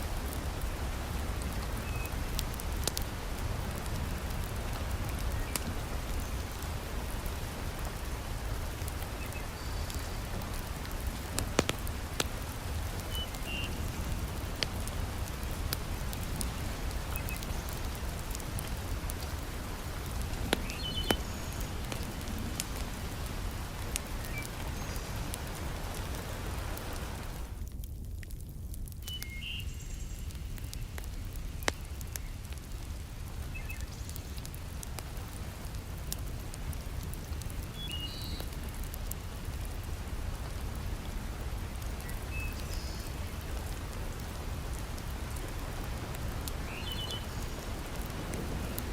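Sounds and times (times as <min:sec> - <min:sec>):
heavy rain: 0:00.0 - 0:28.8, 0:29.6 - 0:48.9
fire popping: 0:00.0 - 0:48.9
wood fire crackling: 0:00.0 - 0:48.9.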